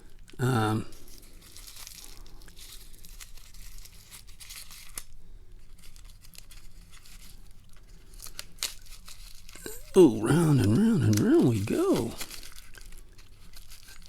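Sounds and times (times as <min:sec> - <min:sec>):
packaging crinkling and tearing: 0:00.9 - 0:14.0.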